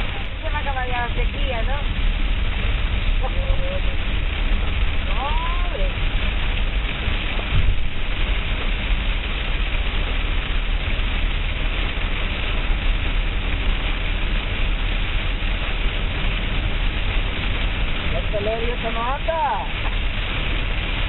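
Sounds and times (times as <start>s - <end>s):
heavy rain: 0.0s - 21.0s
vehicle low rumble: 0.0s - 21.0s.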